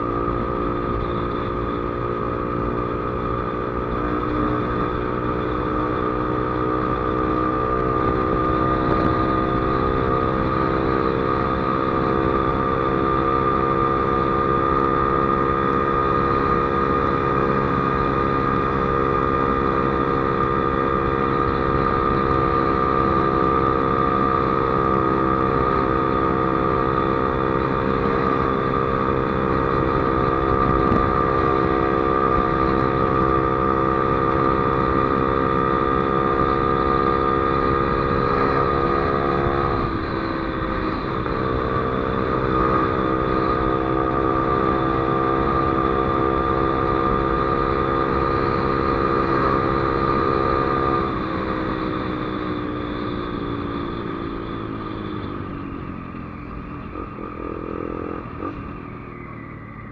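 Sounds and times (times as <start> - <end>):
motorcycle engine at high revs: 0.0 - 59.9
wind and road noise: 0.0 - 59.9.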